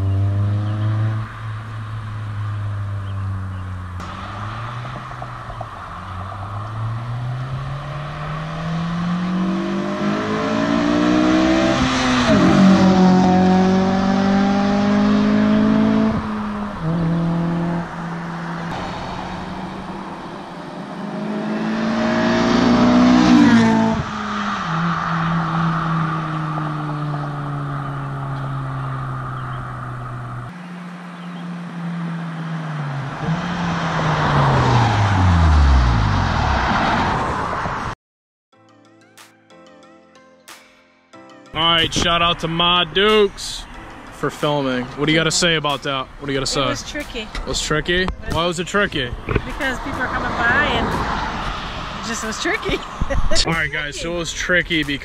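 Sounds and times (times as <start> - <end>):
car engine revving: 0.0 - 37.9, 41.6 - 55.0.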